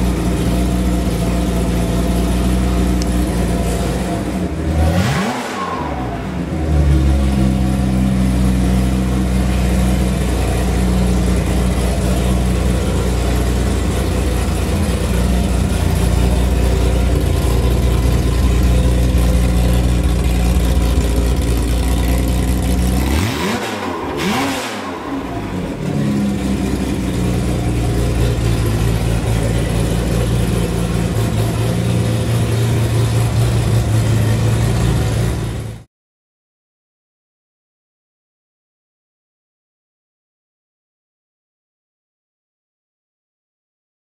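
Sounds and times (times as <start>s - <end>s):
car engine running and revving: 0.0s - 35.9s.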